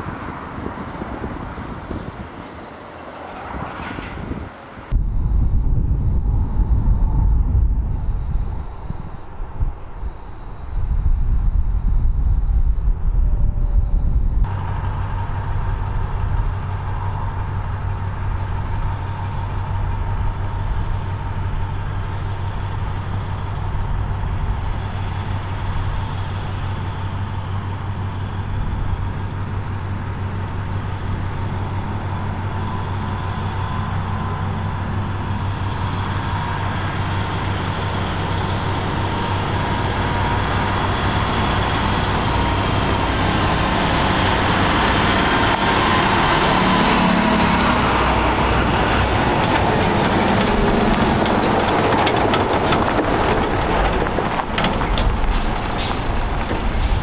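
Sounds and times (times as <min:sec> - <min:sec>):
truck diesel engines running: 0:00.0 - 0:12.6, 0:13.8 - 0:57.0
tyre and road noise: 0:00.0 - 0:57.0.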